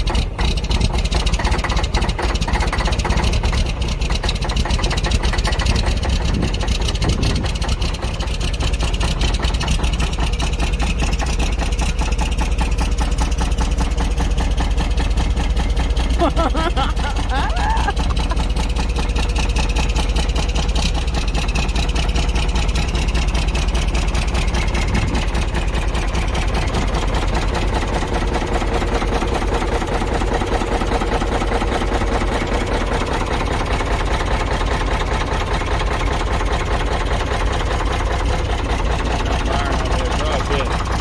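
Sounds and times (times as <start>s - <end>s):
diesel truck engine idling: 0.0s - 41.0s.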